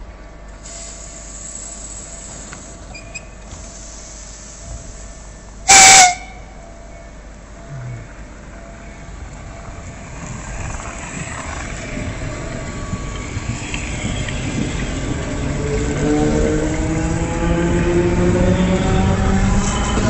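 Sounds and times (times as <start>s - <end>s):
electric train running past: 0.0s - 20.0s.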